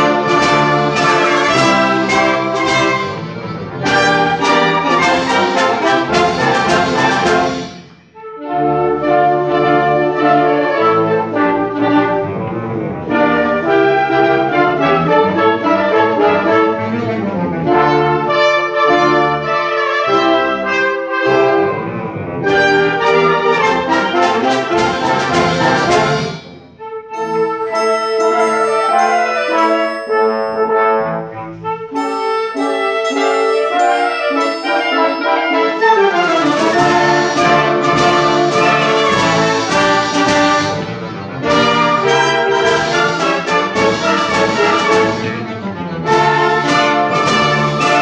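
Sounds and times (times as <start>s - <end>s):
live brass ensemble music: 0.0s - 48.0s.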